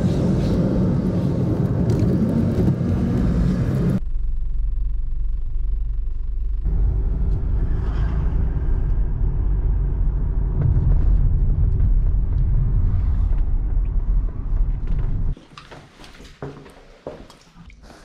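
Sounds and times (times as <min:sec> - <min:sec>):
car engine and tyres rumbling: 0:00.0 - 0:15.4.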